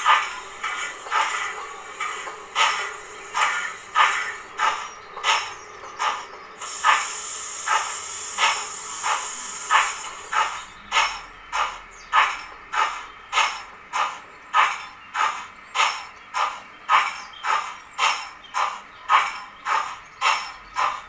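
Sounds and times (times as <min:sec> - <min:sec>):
model locomotive exhaust chuffs: 0:00.0 - 0:21.0
steam hiss: 0:00.0 - 0:21.0.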